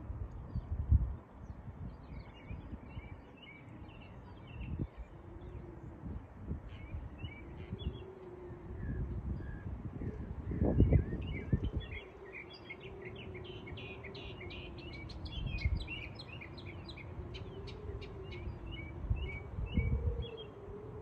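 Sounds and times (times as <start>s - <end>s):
faint steady hum: 0.0s - 21.0s
wind rumbling on microphone: 0.0s - 21.0s
songbird chirping: 0.5s - 21.0s.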